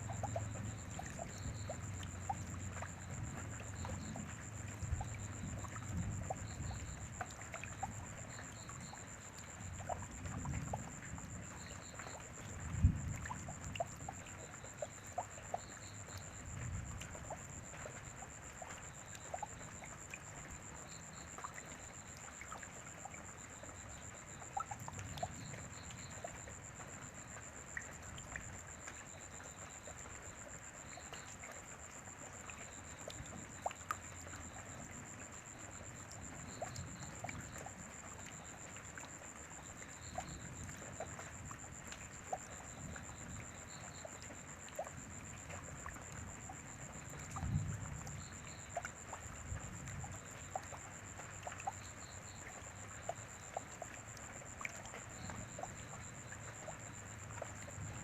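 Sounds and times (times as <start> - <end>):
rain dripping: 0.0 - 58.0.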